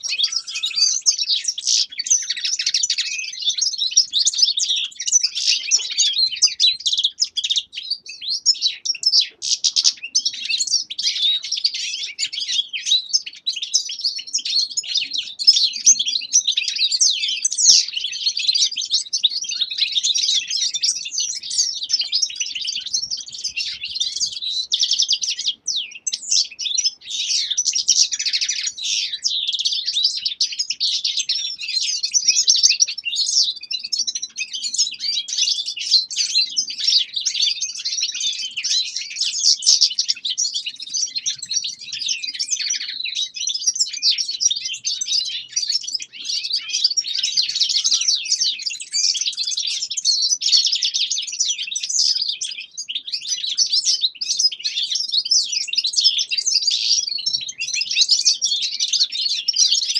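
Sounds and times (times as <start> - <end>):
finches twittering and singing: 0.0 - 59.9.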